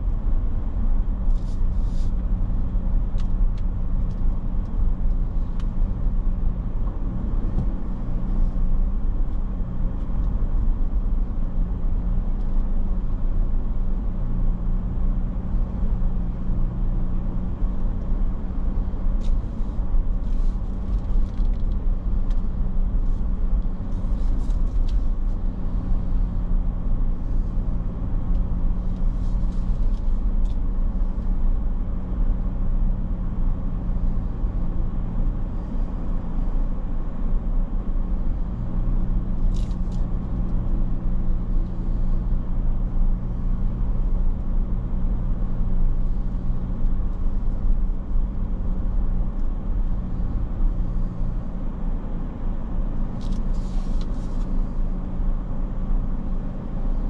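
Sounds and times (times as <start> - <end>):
road rumble: 0.0 - 57.0
vehicle engine drone: 0.0 - 57.0.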